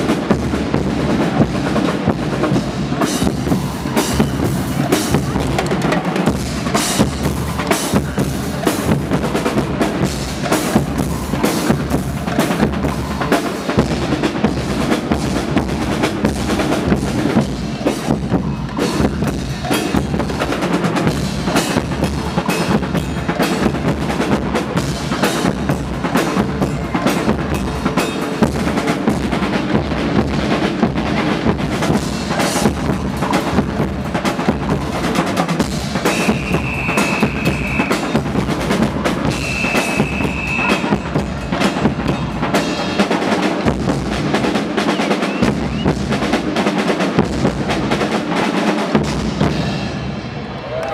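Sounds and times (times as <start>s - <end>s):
band drumming: 0.0s - 50.4s.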